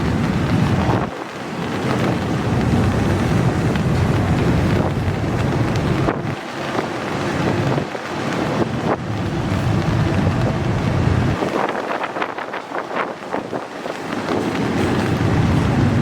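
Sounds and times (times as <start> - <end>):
freight train rumbling past: 0.0 - 16.0
wind buffeting microphone: 0.0 - 16.0.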